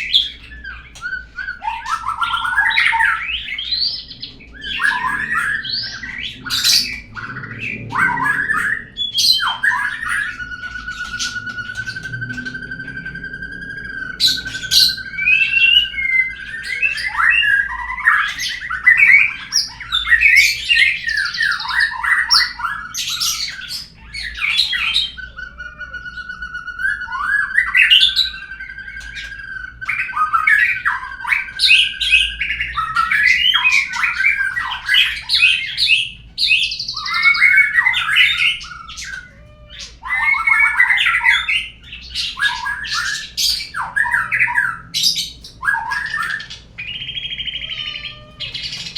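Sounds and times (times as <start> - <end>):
long steady bird whistle: 0.0 - 48.3
bird whistles and chirps: 0.0 - 48.9.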